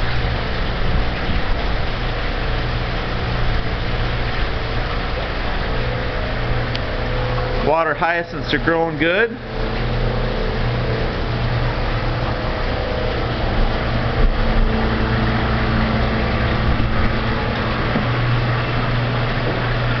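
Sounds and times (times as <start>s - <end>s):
splashing churning water: 0.0s - 20.0s
water pumps humming: 0.0s - 20.0s.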